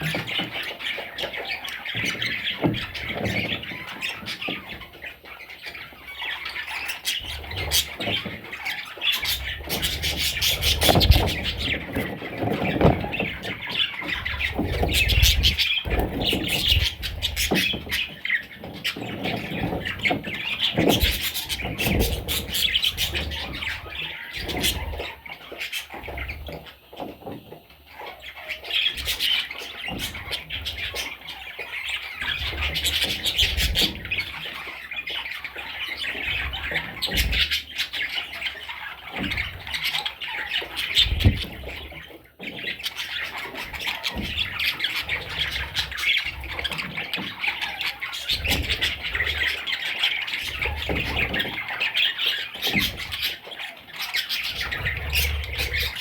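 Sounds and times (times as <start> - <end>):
budgerigar chicks squawking: 0.0 - 56.0.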